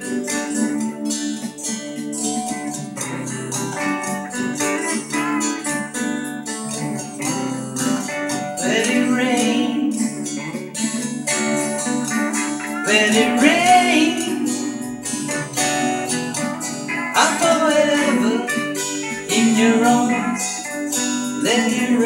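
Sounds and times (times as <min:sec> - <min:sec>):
strummed acoustic guitar music: 0:00.0 - 0:22.0.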